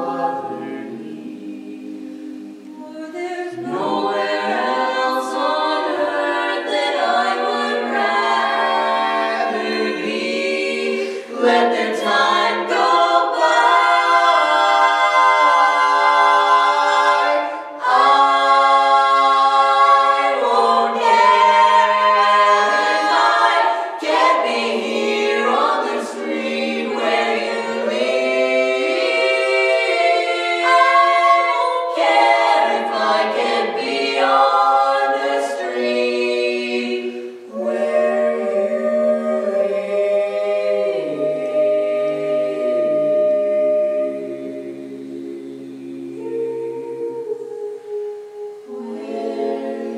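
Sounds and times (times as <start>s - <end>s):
a cappella vocal quartet singing: 0.0s - 49.9s.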